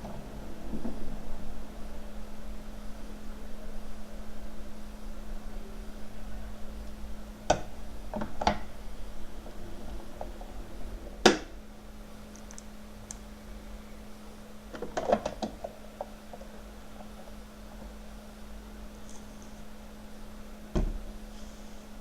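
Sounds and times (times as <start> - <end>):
mini fridge humming: 0.0 - 22.0.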